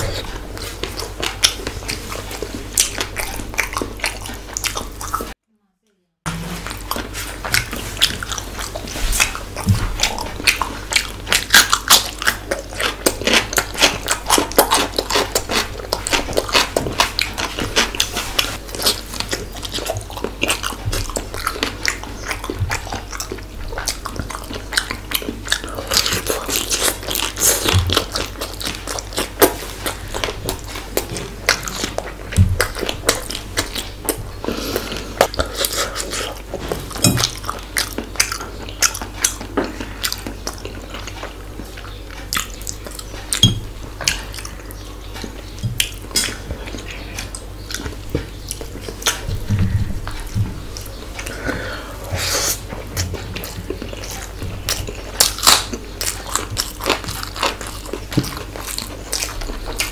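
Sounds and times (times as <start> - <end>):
mouth clicks and crunches: 0.0 - 5.4, 6.6 - 59.9
person chewing food: 0.0 - 5.4, 6.3 - 59.9.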